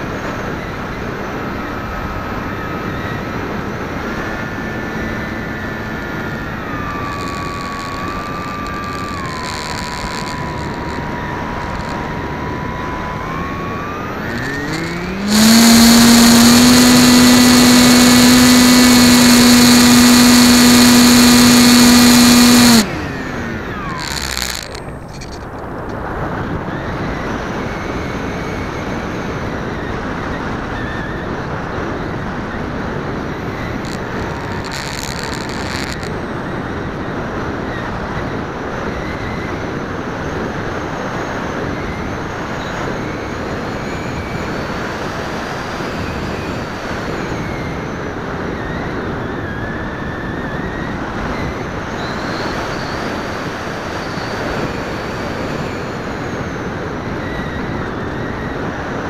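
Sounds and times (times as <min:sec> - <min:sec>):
faint motor whine: 0:00.0 - 0:59.0
propeller noise: 0:00.0 - 0:59.0.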